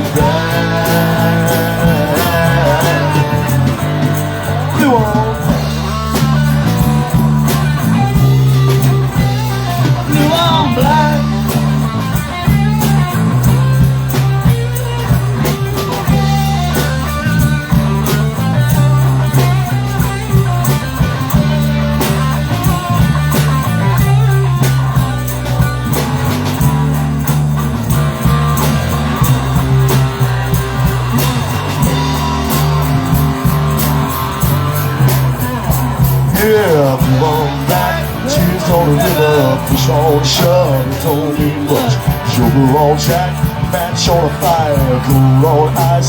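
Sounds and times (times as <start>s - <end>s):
bass guitar: 0.0s - 46.0s
electric guitar: 0.0s - 46.0s
steady drum beat: 0.0s - 46.0s.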